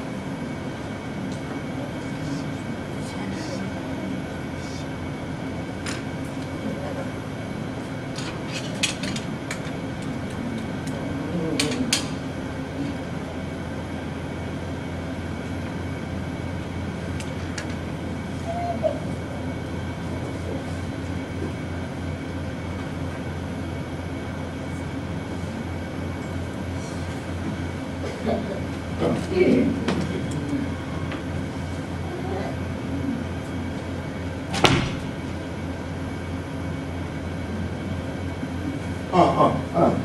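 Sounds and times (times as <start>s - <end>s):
droning room hum: 0.0s - 40.0s.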